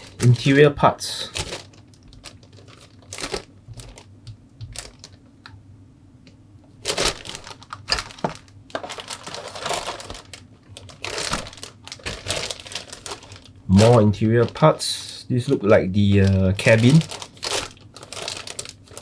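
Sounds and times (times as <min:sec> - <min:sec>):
plastic bags crinkling: 0:00.0 - 0:05.2, 0:06.8 - 0:19.0.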